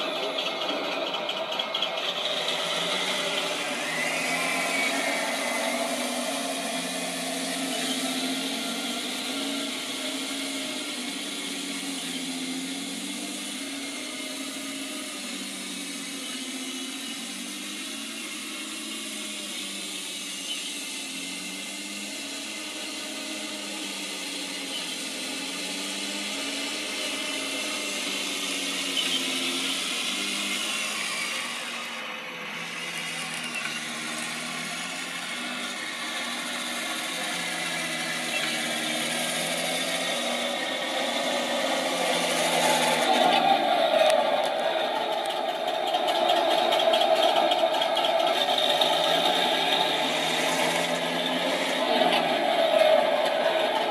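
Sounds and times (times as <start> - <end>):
electric drive motors whining: 0.0 - 53.9
simulated tank engine sound: 0.0 - 53.9.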